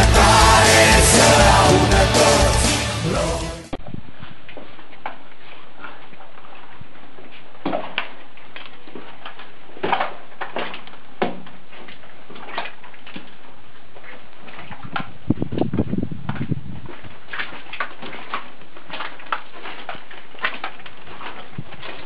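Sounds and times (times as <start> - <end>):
footsteps on wet stony floor: 4.2 - 22.0.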